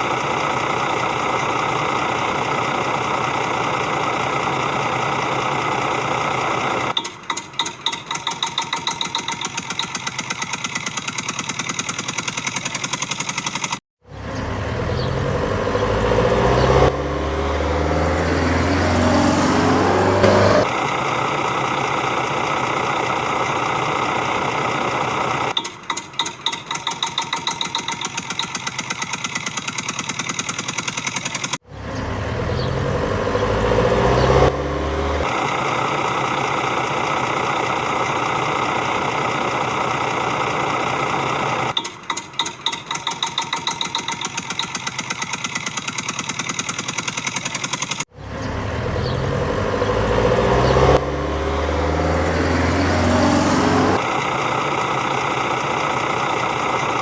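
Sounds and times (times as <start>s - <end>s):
engine chugging and revving: 0.0s - 7.0s, 7.9s - 25.6s, 26.7s - 41.8s, 42.7s - 57.0s.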